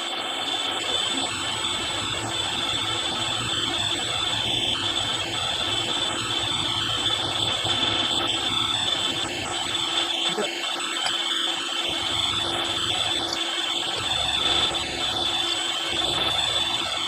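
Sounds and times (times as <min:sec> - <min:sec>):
high machine whine: 0:00.0 - 0:17.0
milling machine cutting: 0:00.0 - 0:17.0.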